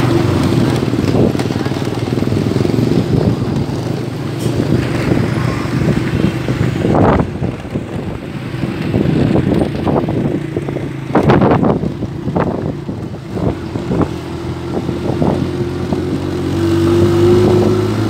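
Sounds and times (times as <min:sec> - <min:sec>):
rush of noise: 0:00.0 - 0:18.0
vehicle engines droning: 0:00.0 - 0:18.0.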